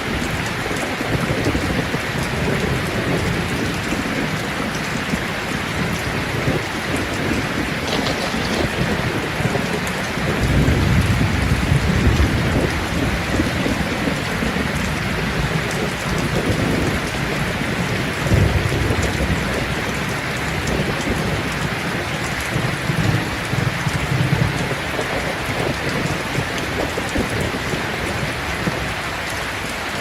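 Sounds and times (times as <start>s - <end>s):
heavy rain falling: 0.0s - 30.0s
thunder rumbling: 0.0s - 30.0s.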